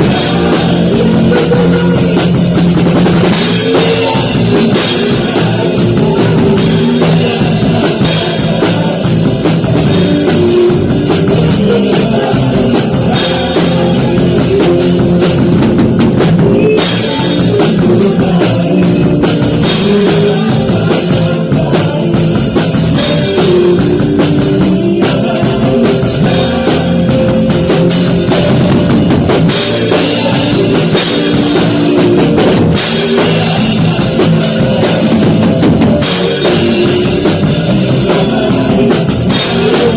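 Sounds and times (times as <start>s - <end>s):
band playing live: 0.0s - 39.9s.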